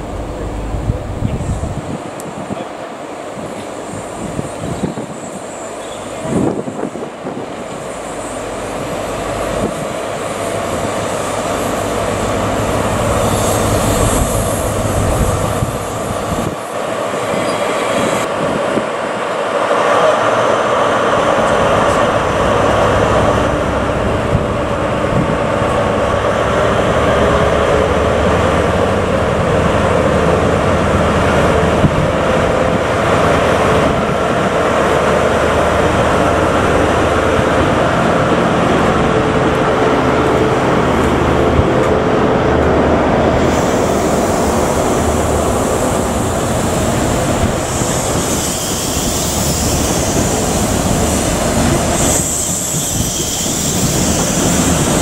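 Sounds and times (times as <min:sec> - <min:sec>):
diesel locomotive engine running: 0:00.0 - 0:02.6, 0:05.4 - 0:18.5, 0:20.2 - 0:55.0
train coaches rolling by: 0:00.0 - 0:55.0
wheels hissing on wet rail: 0:00.0 - 0:55.0.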